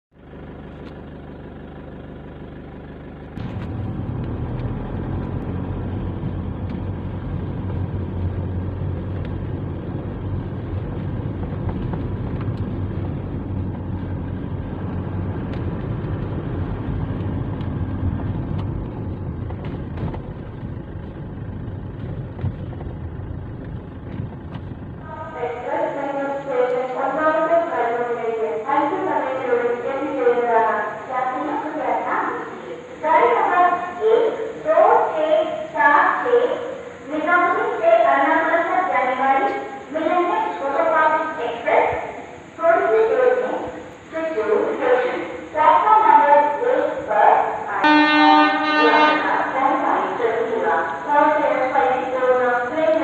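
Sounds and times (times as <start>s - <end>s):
car engine and road noise: 0.1s - 53.0s.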